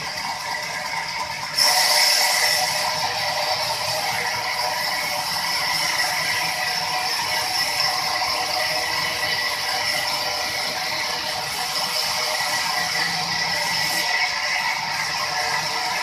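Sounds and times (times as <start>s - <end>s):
band saw cutting log: 1.5s - 16.0s.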